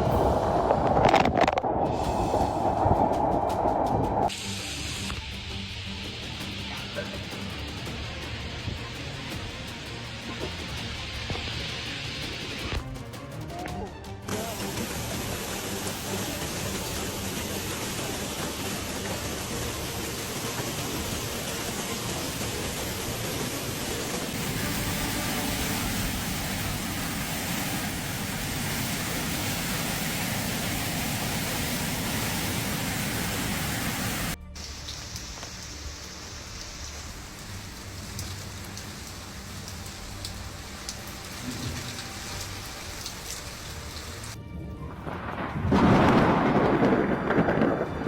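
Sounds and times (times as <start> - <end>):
heavy rain hissing: 0.0 - 12.8, 14.3 - 44.4
raindrops ticking on a surface: 5.0 - 44.4.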